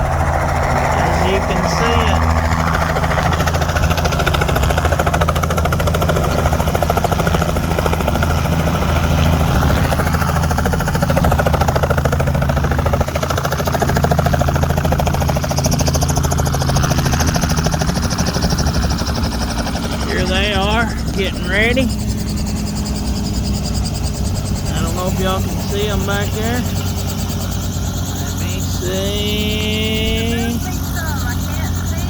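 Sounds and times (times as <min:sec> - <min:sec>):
helicopter rotor chop: 0:00.0 - 0:32.0
low engine hum: 0:00.0 - 0:32.0.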